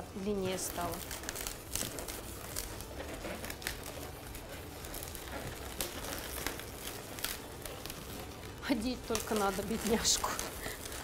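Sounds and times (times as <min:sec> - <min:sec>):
balloons rubbing together: 0:00.0 - 0:11.0.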